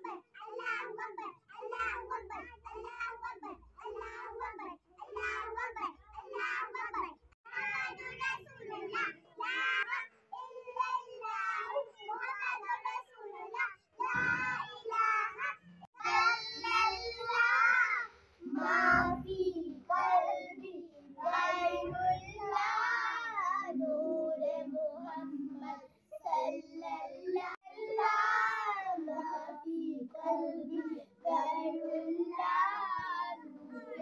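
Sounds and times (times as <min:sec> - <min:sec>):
girls singing unaccompanied: 0:00.0 - 0:34.0.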